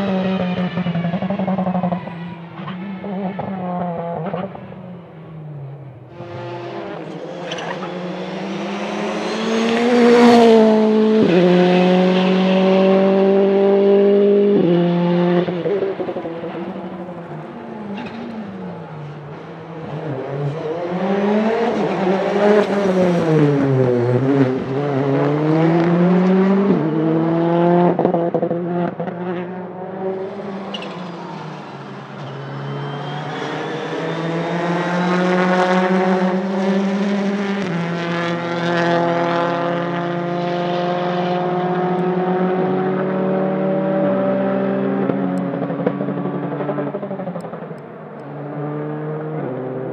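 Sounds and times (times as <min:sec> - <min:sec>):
rally car engine accelerating: 0:00.0 - 0:49.9.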